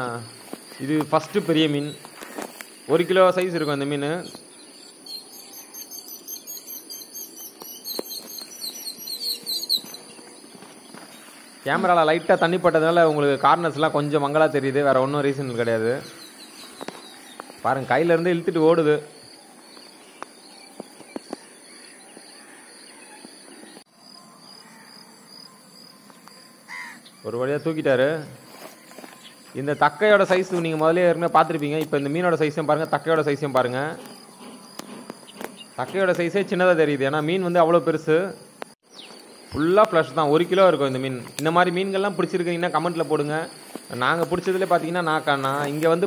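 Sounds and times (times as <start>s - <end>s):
birds chirping: 0.0s - 46.0s
insects droning: 0.0s - 46.0s.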